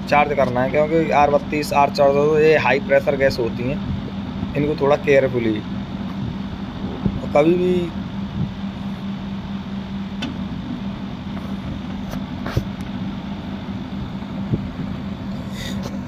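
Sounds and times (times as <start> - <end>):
air conditioner compressor humming: 0.0 - 16.0.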